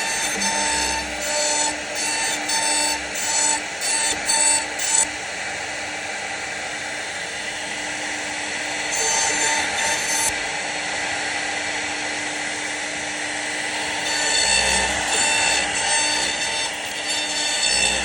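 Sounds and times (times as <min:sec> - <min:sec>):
router spindle cutting wood: 0:00.0 - 0:06.2, 0:07.1 - 0:18.0.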